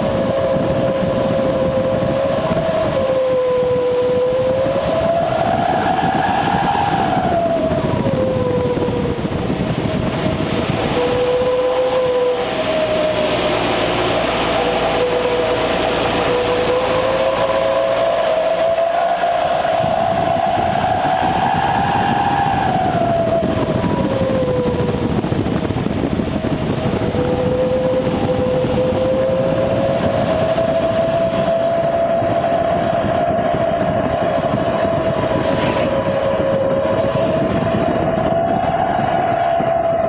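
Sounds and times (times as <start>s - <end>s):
engine droning at raised revs: 0.0s - 40.0s.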